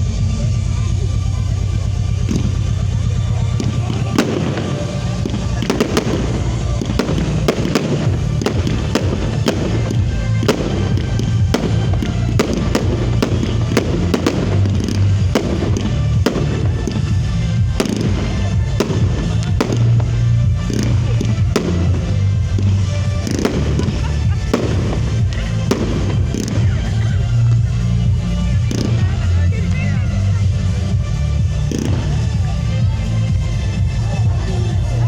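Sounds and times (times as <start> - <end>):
fireworks bangs and crackles: 0.0 - 35.0
loud music with heavy bass: 0.0 - 35.0.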